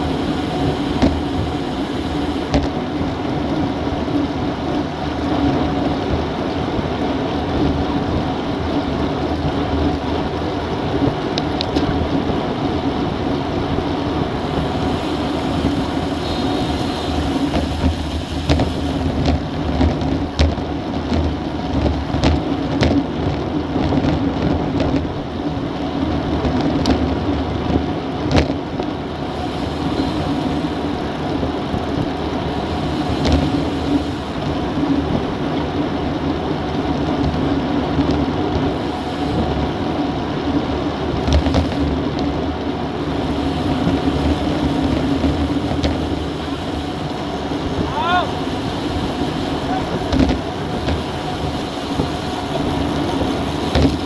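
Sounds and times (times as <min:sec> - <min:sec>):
bike tyres rolling on asphalt: 0:00.0 - 0:54.0
wind rushing over microphone: 0:00.0 - 0:54.0.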